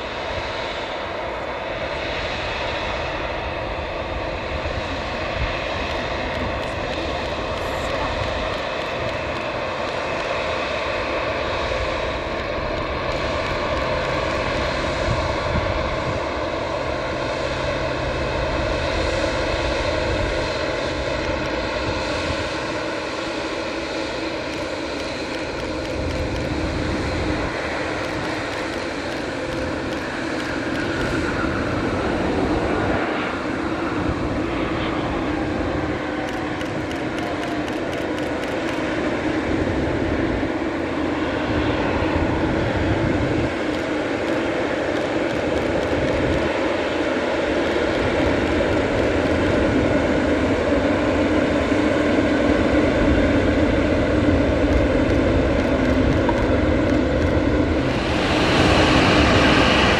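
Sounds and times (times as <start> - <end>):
jet engines taxiing: 0.0 - 59.9.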